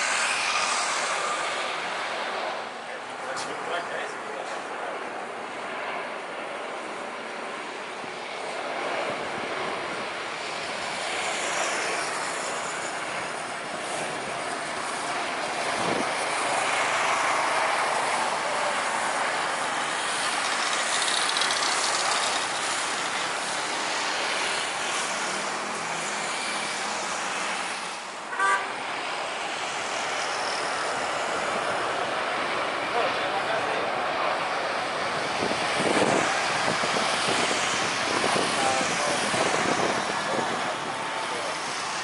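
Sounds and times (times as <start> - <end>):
jet airliner landing: 0.0 - 42.0.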